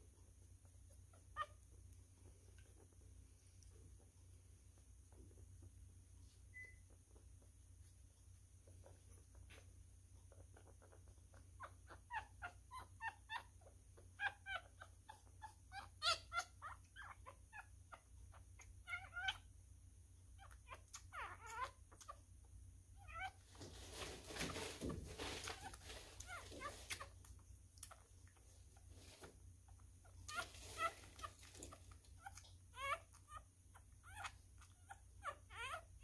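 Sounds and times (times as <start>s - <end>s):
puppy squeaking and whimpering: 0.5s - 19.6s, 20.2s - 36.0s.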